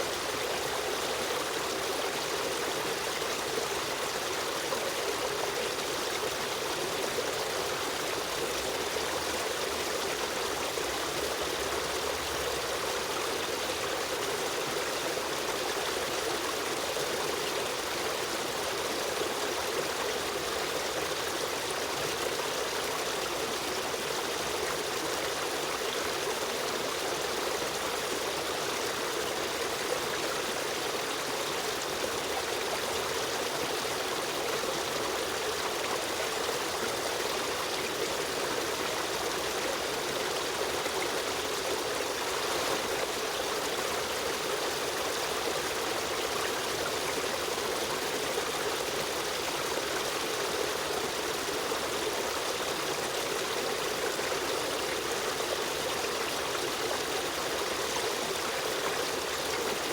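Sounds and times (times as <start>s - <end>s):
stream running and trickling: 0.0s - 59.9s.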